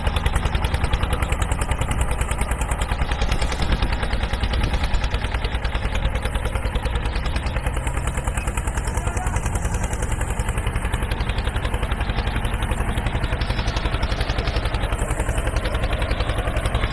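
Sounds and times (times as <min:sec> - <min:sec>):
hand tractor engine running: 0:00.0 - 0:16.9.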